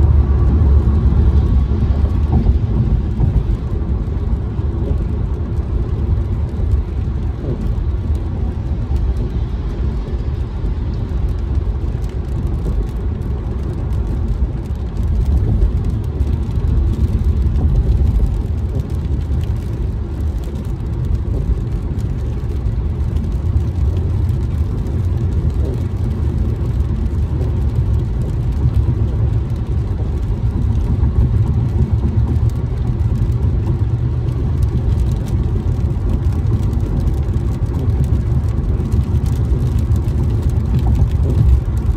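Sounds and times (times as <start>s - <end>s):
car engine rumble: 0.0s - 41.9s
raindrops ticking on windshield: 0.0s - 41.9s
tyres on wet road: 0.0s - 41.9s.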